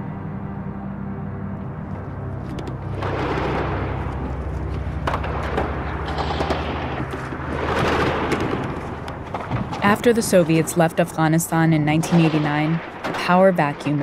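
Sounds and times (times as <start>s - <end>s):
low music drone: 0.0s - 14.0s
battle rumble: 1.8s - 14.0s.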